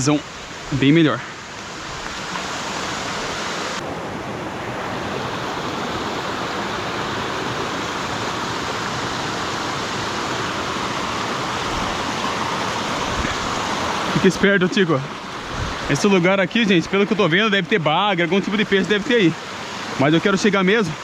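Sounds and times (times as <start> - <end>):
water rushing in stream and waterfall: 0.0 - 21.0.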